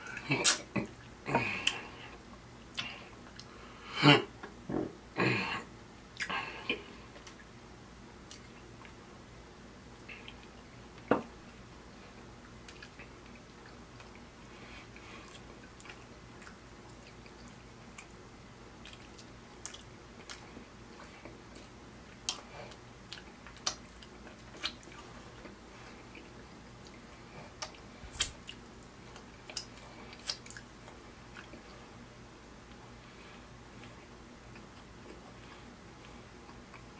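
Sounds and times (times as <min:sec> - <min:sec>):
man chewing with mouth clicks: 0:00.0 - 0:03.6, 0:06.1 - 0:07.5, 0:08.2 - 0:09.0, 0:10.0 - 0:11.1, 0:12.1 - 0:32.0, 0:33.7 - 0:36.9.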